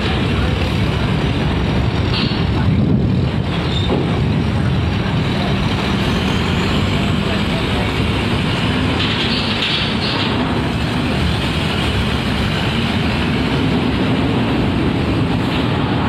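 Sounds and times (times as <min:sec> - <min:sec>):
heavy vehicle engines rumbling: 0:00.0 - 0:16.0.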